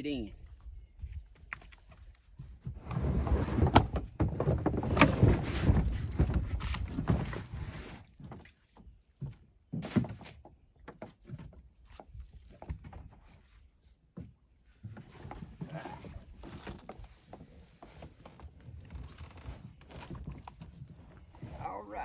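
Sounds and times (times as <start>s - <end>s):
rustling and scraping: 1.6s - 22.0s.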